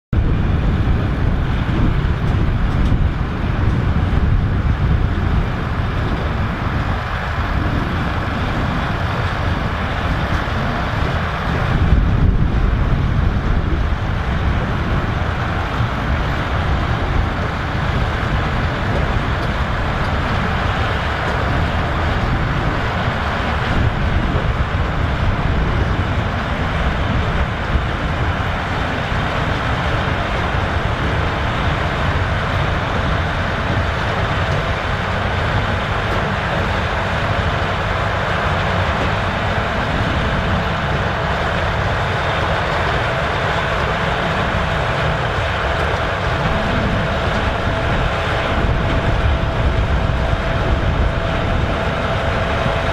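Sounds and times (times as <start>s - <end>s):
tractor diesel engine running: 0.1s - 52.9s
faint whine: 0.2s - 52.9s.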